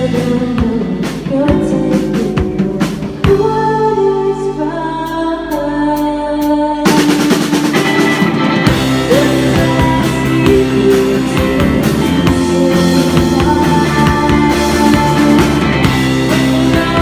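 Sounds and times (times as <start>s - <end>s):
drum kit: 0.0s - 17.0s
electric guitar: 0.0s - 17.0s.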